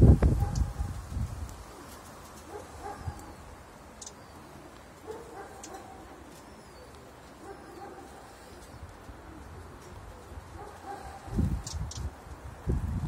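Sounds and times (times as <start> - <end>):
pigeons cooing: 0.2 - 12.2.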